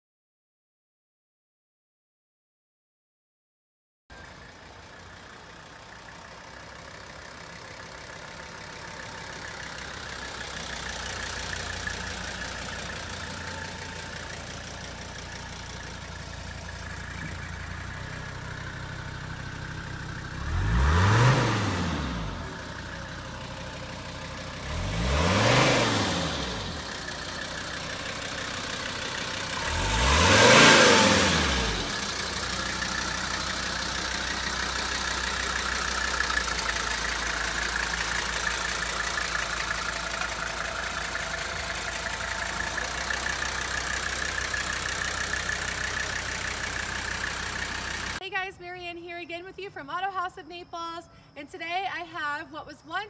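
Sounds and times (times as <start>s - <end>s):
diesel engine idling and revving: 4.1s - 48.4s.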